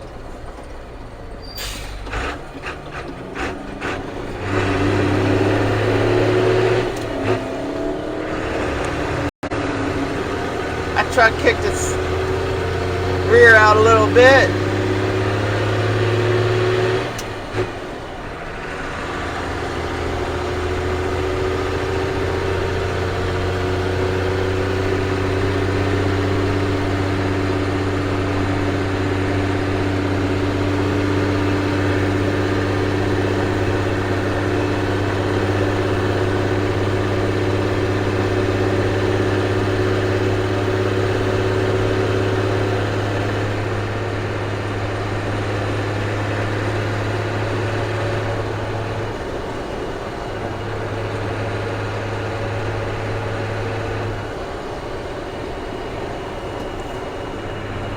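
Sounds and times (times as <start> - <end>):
diesel truck engine running: 0.0 - 57.9.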